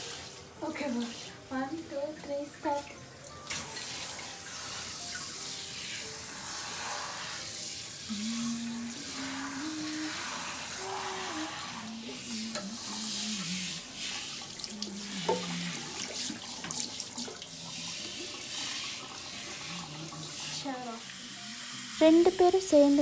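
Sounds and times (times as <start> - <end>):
shower water spraying: 0.0 - 23.0.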